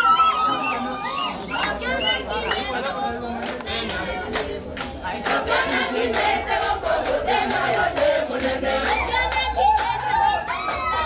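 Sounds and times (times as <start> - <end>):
crowd singing and chanting: 0.0 - 11.0.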